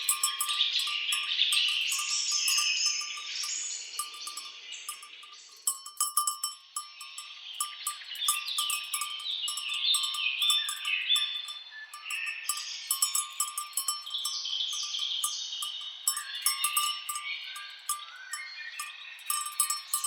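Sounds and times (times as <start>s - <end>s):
birds calling: 0.0s - 20.0s
cowbells clanking: 0.0s - 20.0s.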